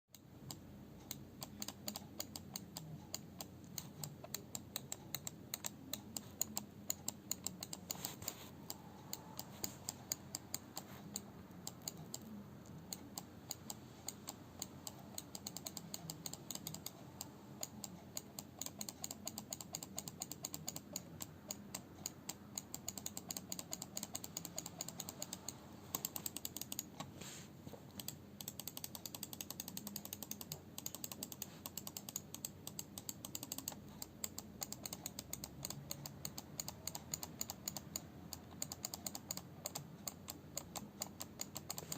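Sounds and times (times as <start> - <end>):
mouse button clicking rapidly: 0.1 - 27.0, 27.9 - 41.9.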